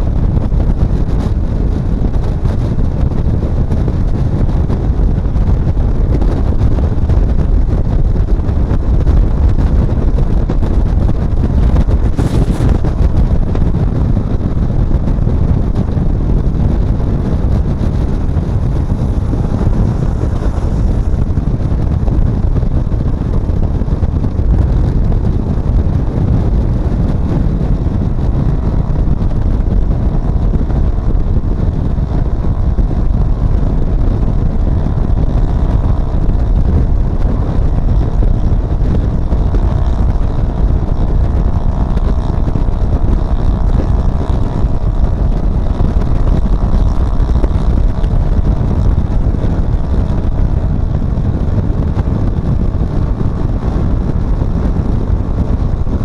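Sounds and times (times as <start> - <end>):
engine and road noise: 0.0 - 56.0
wind rumble on microphone: 0.0 - 56.0.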